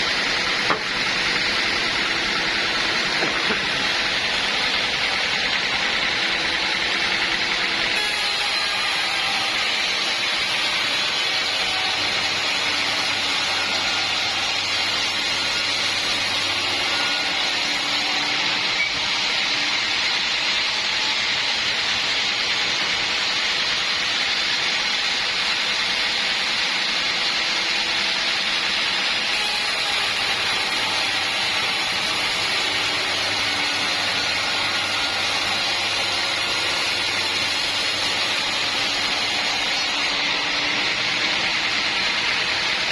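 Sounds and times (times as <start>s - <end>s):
saw whirring through log: 0.0s - 42.9s.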